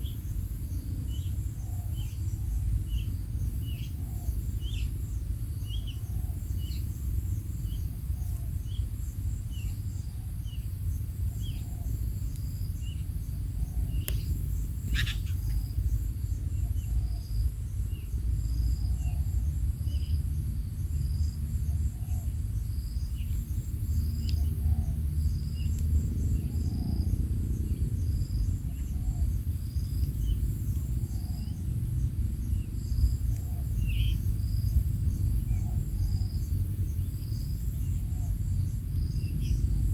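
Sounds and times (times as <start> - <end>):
insects chirping: 0.0 - 39.9
low rumble: 0.0 - 39.9.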